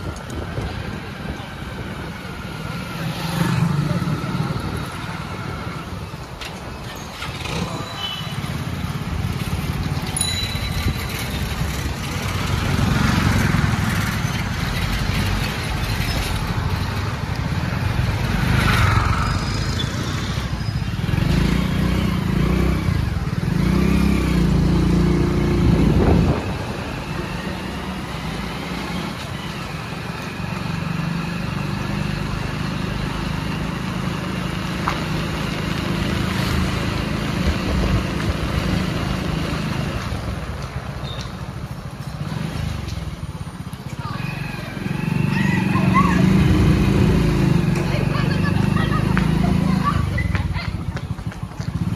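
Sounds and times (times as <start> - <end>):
vehicles passing: 0.0 - 51.9.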